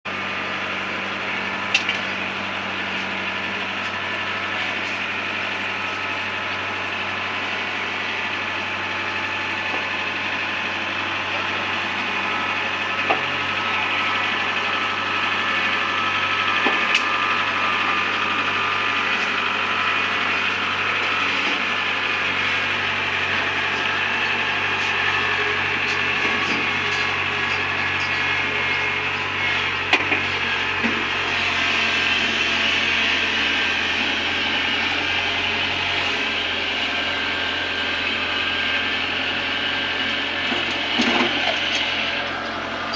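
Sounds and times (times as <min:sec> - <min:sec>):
combine harvester engine drone: 0:00.1 - 0:42.9.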